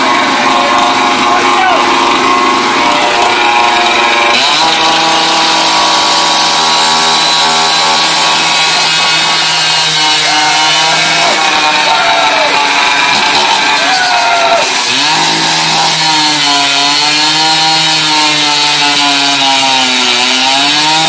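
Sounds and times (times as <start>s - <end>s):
motor running loudly: 0.0s - 21.0s.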